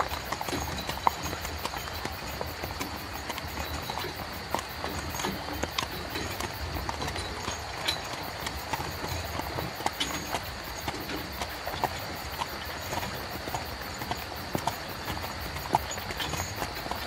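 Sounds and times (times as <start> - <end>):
hooves clip-clopping: 0.0 - 17.0.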